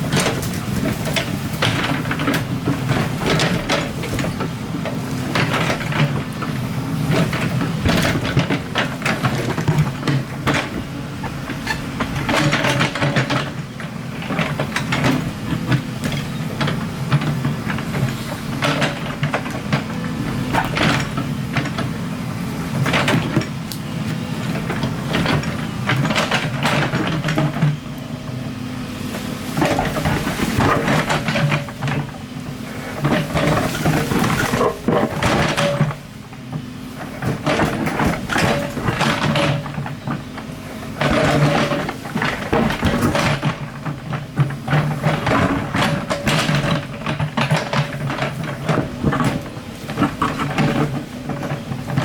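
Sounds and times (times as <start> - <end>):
bucket clanking and scraping: 0.0 - 27.8, 29.2 - 52.0
excavator diesel engine running: 0.0 - 52.0.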